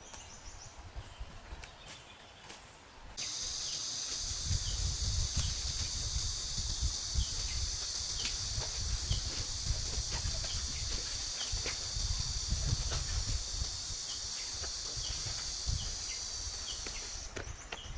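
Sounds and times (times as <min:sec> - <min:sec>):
steady high hiss: 0:03.2 - 0:17.8.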